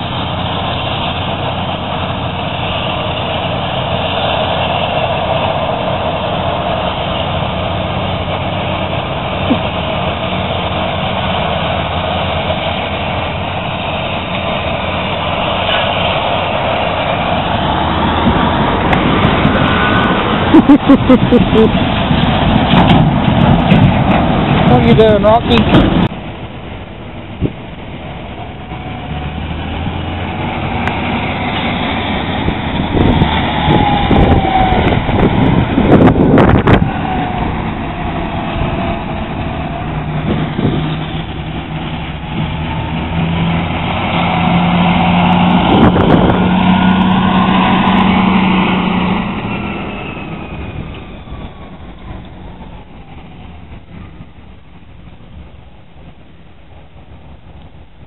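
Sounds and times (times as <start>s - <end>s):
tractor engine under load: 0.0s - 58.0s
trailer clanks and rattles: 0.0s - 58.0s.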